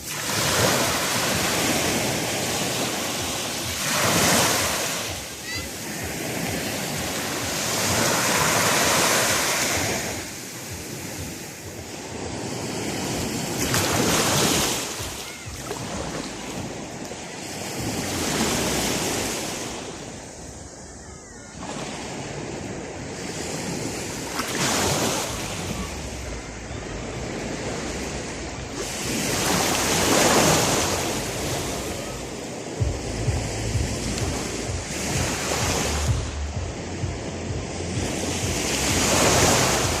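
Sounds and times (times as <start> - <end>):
ocean waves breaking: 0.0 - 40.0.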